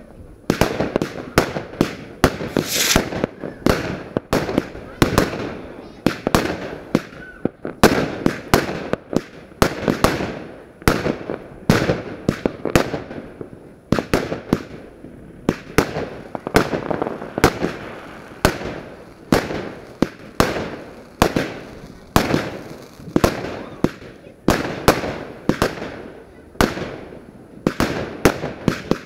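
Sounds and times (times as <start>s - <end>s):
fireworks bangs: 0.4s - 29.0s.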